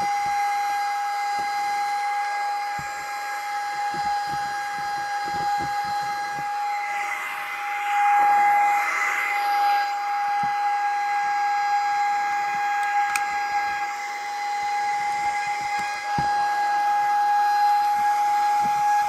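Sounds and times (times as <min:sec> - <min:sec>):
hand-held vacuum whining: 0:00.0 - 0:19.0.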